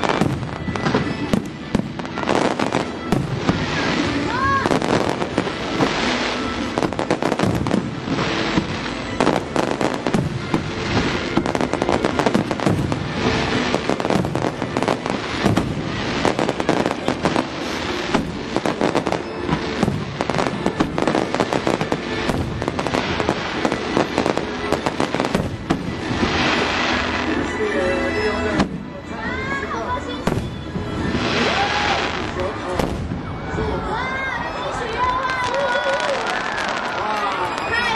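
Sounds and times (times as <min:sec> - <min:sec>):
fireworks bursting and crackling: 0:00.0 - 0:37.9.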